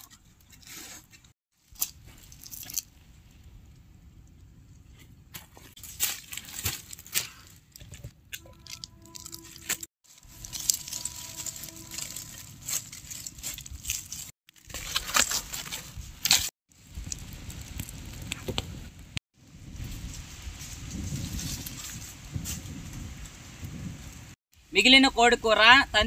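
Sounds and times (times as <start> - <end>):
dry leaves and twigs crackling: 0.0 - 3.7, 5.3 - 19.0, 19.6 - 23.9.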